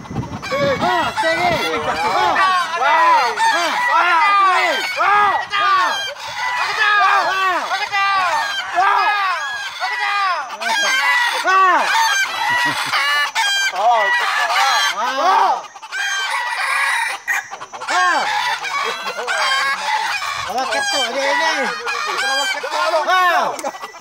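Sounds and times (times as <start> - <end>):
roosters crowing: 0.0 - 24.0.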